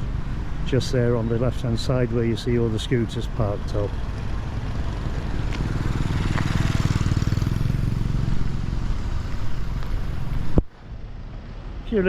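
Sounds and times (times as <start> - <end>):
vehicle engine passing: 0.0 - 11.8.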